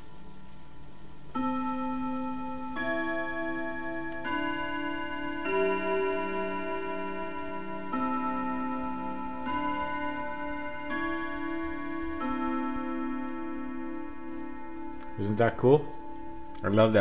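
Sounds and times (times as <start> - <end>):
grandfather clock chime melody: 0.0 - 17.0.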